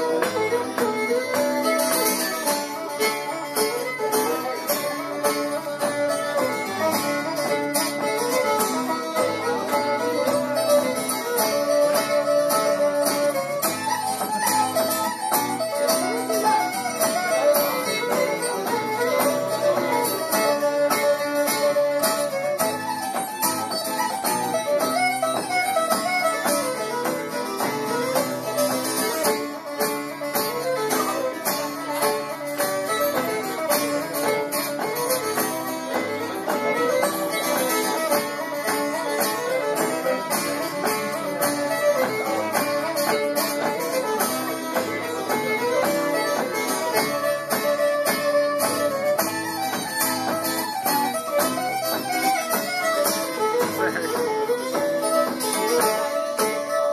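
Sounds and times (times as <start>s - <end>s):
fiddle playing fast melody: 0.0s - 56.9s
strummed acoustic guitar: 0.0s - 56.9s.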